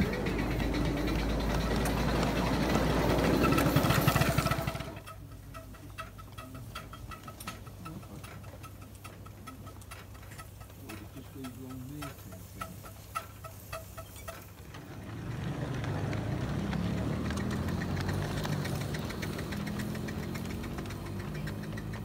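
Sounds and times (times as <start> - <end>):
miniature steam train passing: 0.0 - 22.0
wheels rumbling on rails: 0.0 - 22.0
wheels ticking on rails: 0.0 - 22.0.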